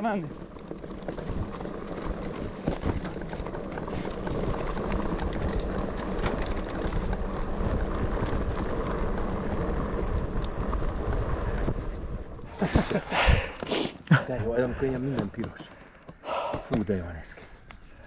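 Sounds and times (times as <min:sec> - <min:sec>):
mountain bike on dirt trail: 0:00.0 - 0:18.0.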